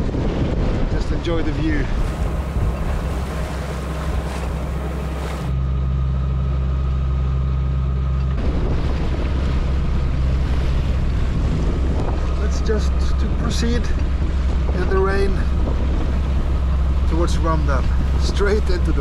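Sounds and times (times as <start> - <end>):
water rushing past hull: 0.0 - 5.6, 8.4 - 19.0
wind on microphone: 0.0 - 5.6, 8.4 - 19.0
boat engine humming: 1.6 - 19.0.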